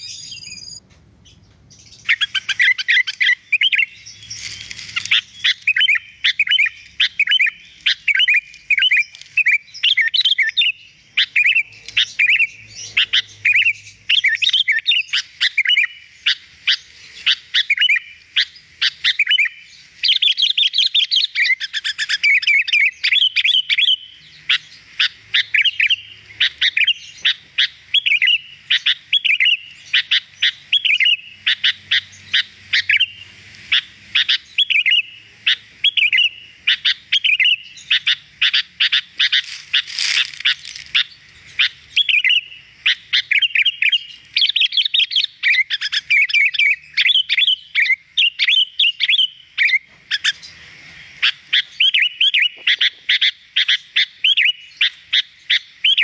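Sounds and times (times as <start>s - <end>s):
bulbul singing: 0.0s - 56.0s.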